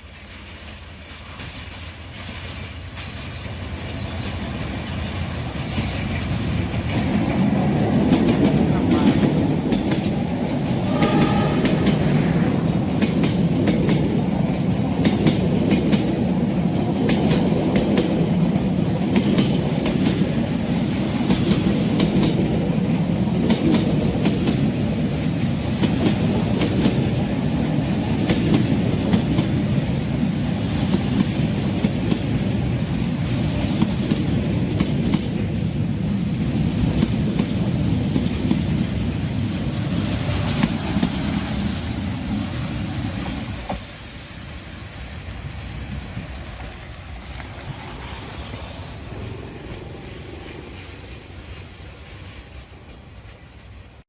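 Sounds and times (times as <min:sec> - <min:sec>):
train wheels clicking over rail joints: 0:00.0 - 0:53.6
rumble of train coaches: 0:00.0 - 0:54.0.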